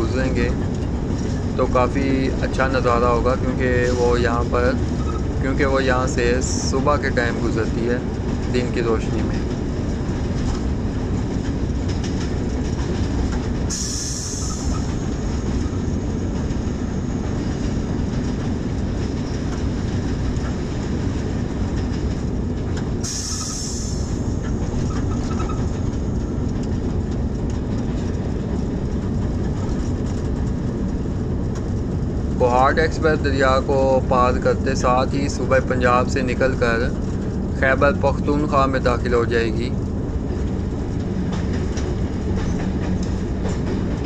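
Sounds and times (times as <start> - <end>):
diesel locomotive rumbling: 0.0 - 44.0.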